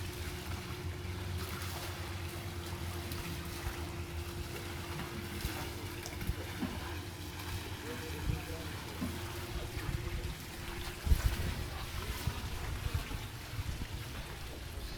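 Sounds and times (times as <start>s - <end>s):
pool water sloshing and splashing: 0.0s - 14.9s
steady low hum: 0.0s - 14.9s.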